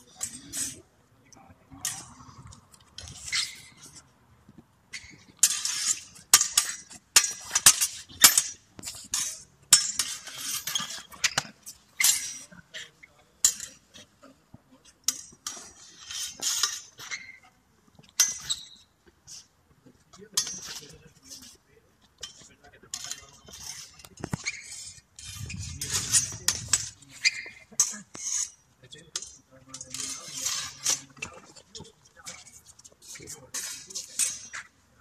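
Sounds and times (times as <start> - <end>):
steel sabres clashing: 0.0 - 0.9, 1.7 - 4.0, 4.9 - 14.2, 14.8 - 19.5, 20.3 - 21.5, 22.2 - 34.8.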